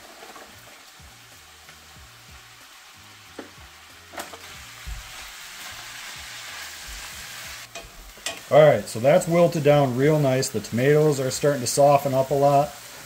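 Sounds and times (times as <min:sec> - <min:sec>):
spinach sizzling in a skillet: 0:00.0 - 0:13.0.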